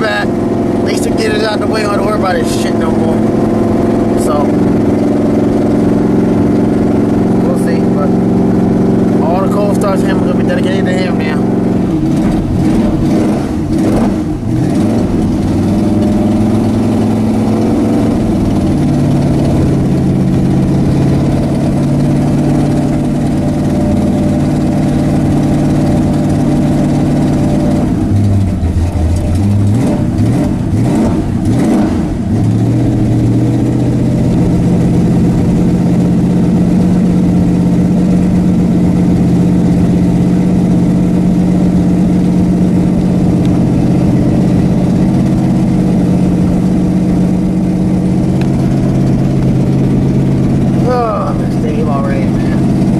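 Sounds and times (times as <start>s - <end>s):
truck engine idling: 0.0s - 52.9s.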